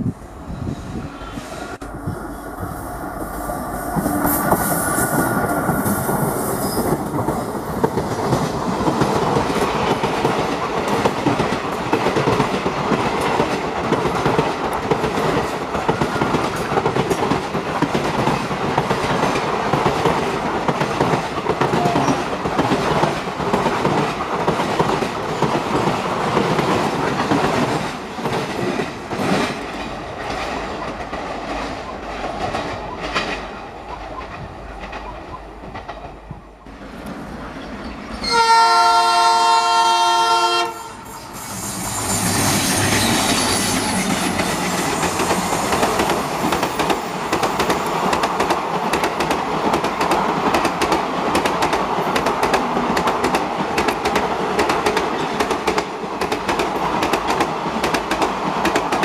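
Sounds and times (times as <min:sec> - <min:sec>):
train passing at speed: 0:00.0 - 0:59.0.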